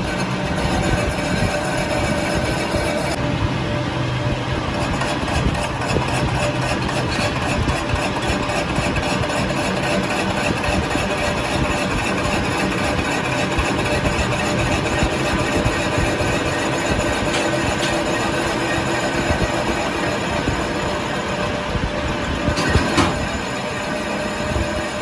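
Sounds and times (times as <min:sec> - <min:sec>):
machine running: 0:00.0 - 0:25.0.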